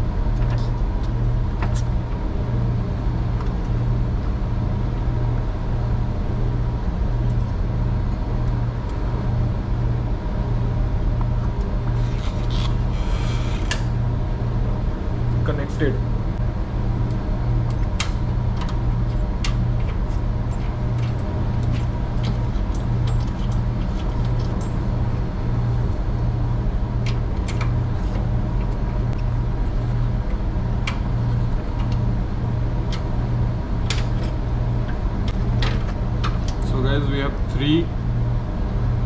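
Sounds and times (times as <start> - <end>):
machinery drone with pulsing hum: 0.0 - 39.0.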